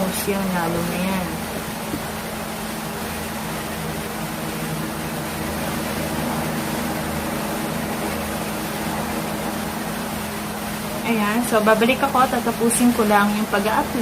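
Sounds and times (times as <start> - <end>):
appliance humming and hissing: 0.0 - 14.0.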